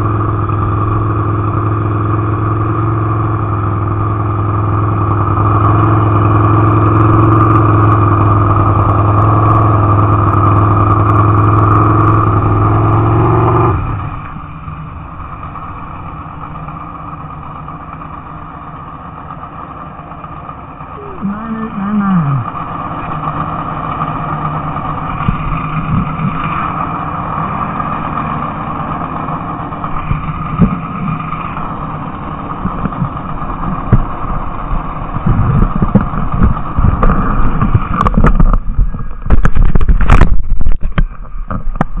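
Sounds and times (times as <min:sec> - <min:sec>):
motorcycle engine idling: 0:00.0 - 0:13.2, 0:13.8 - 0:40.1.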